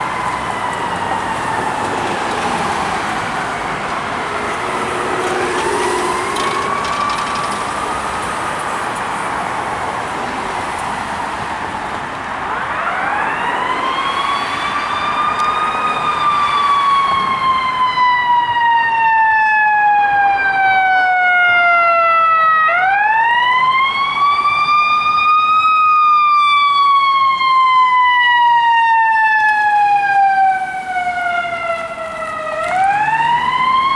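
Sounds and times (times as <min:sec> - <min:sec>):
sirens wailing: 0:00.0 - 0:33.9.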